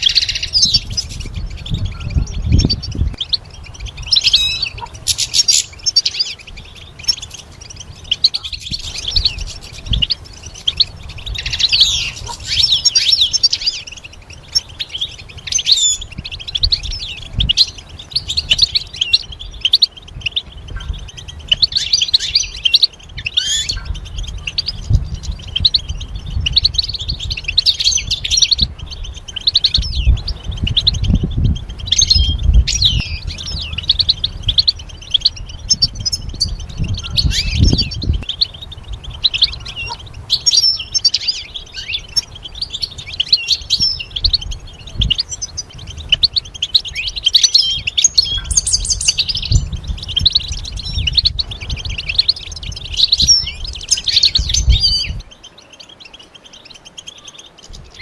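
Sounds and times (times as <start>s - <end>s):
goldfinch twittering chirps: 0.0s - 58.0s.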